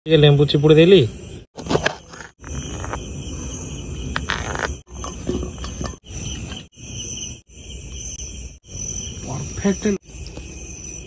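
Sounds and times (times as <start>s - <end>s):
insects trilling: 0.1s - 11.0s.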